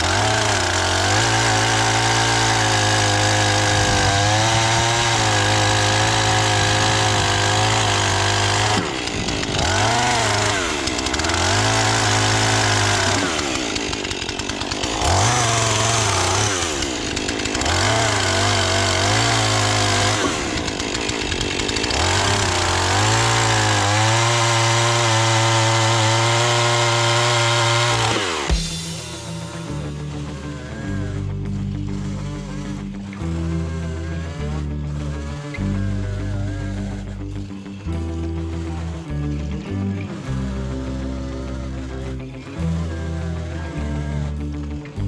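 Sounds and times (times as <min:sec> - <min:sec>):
chainsaw cutting wood: 0:00.0 - 0:37.8.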